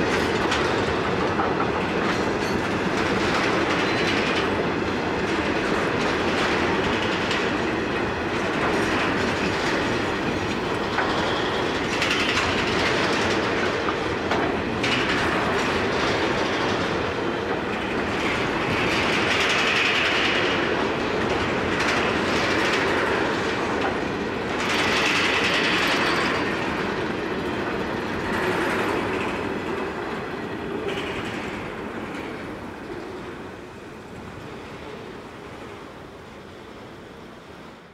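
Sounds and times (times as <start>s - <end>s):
train wagons rolling on rails: 0.0s - 37.9s.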